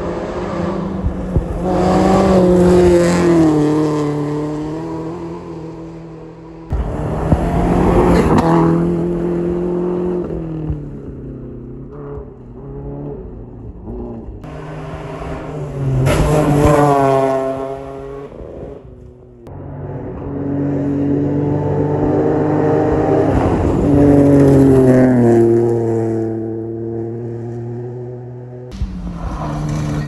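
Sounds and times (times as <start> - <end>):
rally cars passing at full throttle: 0.0 - 30.0.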